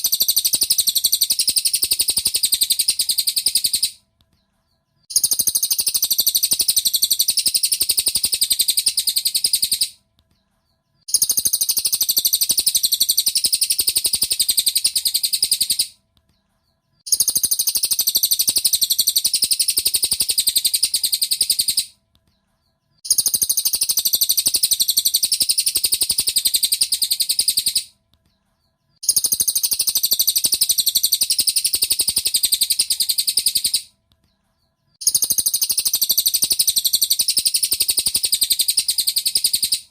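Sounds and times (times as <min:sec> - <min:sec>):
bird chirping rapidly: 0:00.0 - 0:04.0, 0:05.0 - 0:10.0, 0:11.0 - 0:16.0, 0:17.0 - 0:22.0, 0:22.9 - 0:28.0, 0:28.9 - 0:33.9, 0:34.9 - 0:39.9.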